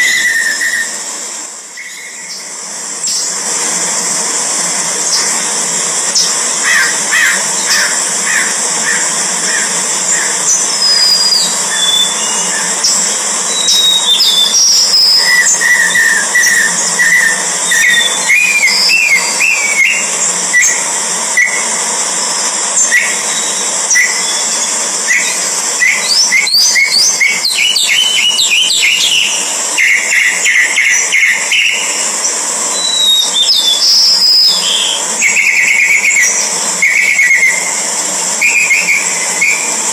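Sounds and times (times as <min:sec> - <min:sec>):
birds chirping and whistling: 0:00.0 - 0:01.1, 0:01.7 - 0:03.5, 0:05.0 - 0:21.8, 0:22.7 - 0:39.9
steady high hiss: 0:00.0 - 0:39.9.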